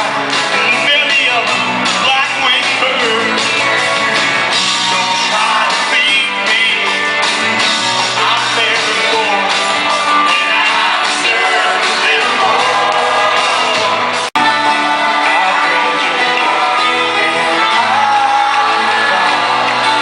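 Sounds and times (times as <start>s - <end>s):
lead singer singing: 0.0s - 20.0s
live rock band playing: 0.0s - 20.0s.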